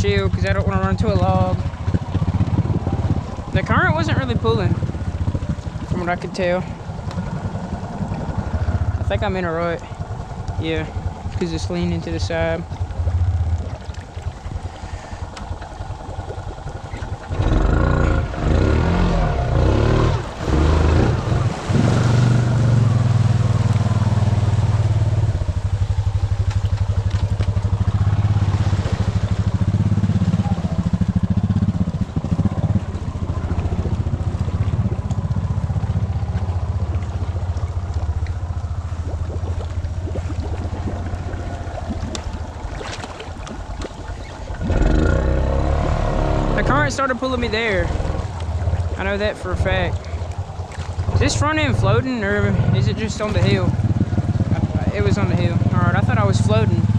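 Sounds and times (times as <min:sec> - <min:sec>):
atv engine revving: 0:00.0 - 0:40.0, 0:43.4 - 0:56.9.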